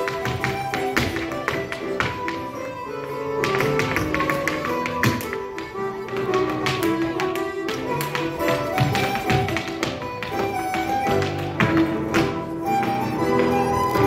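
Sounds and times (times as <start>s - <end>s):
accordion dance tune: 0.0s - 14.0s
hard shoes stamping on stage: 0.0s - 14.0s.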